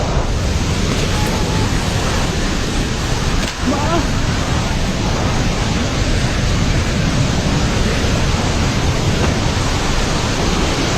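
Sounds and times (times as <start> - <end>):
loud rush of river water: 0.0 - 10.9.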